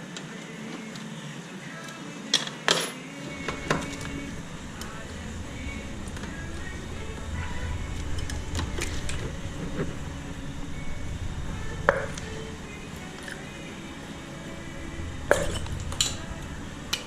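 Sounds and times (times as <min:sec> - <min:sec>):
steady low hum: 0:03.2 - 0:17.0.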